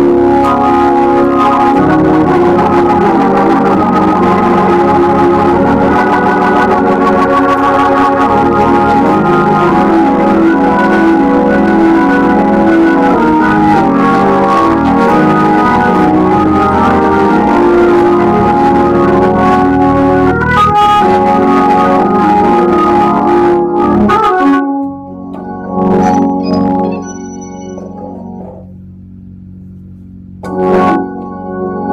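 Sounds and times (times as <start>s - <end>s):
organ chords: 0.0s - 31.9s.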